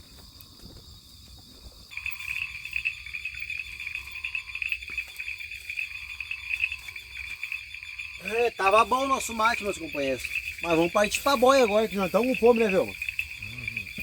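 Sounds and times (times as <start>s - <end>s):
steady high insect trill: 0.0s - 14.0s
pulsing frog chorus: 1.9s - 14.0s.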